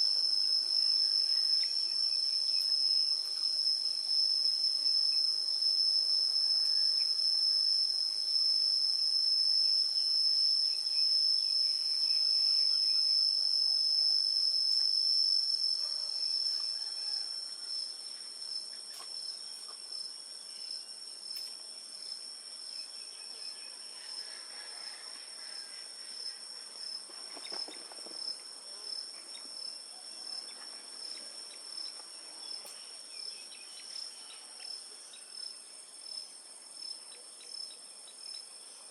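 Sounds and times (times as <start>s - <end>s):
insect chorus trilling: 0.0s - 38.9s.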